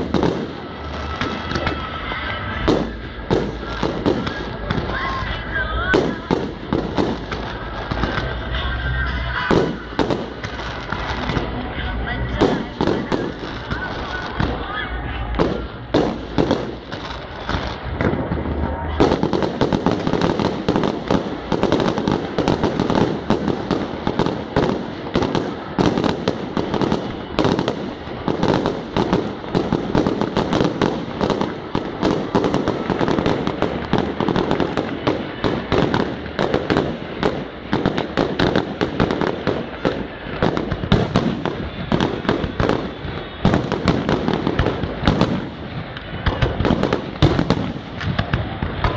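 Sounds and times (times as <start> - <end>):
fireworks bangs and crackling: 0.0 - 48.9.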